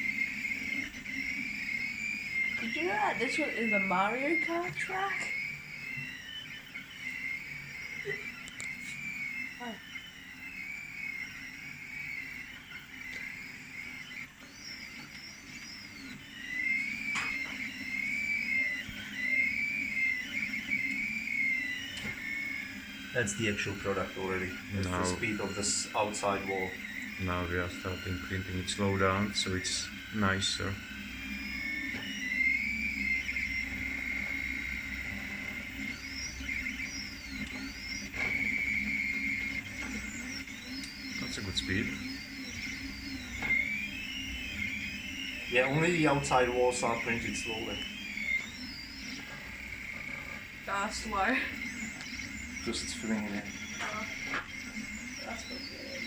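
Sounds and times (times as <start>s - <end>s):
steady low hum: 0.0s - 56.0s
stepper motors whining: 0.0s - 56.0s.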